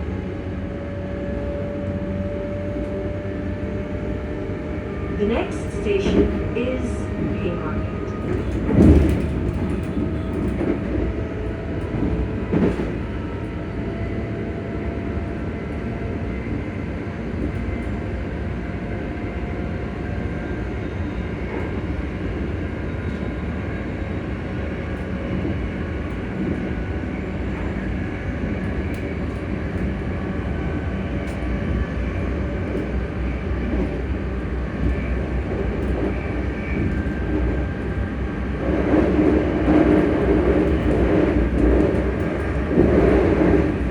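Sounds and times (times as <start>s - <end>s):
train wheels rumbling: 0.0s - 43.9s.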